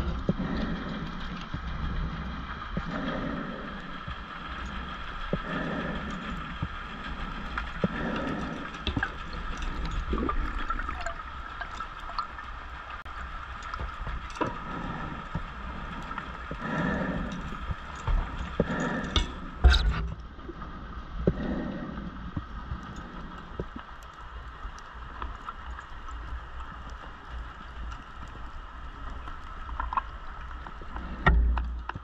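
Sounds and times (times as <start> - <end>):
scuba regulator bubbling: 0.0 - 32.0.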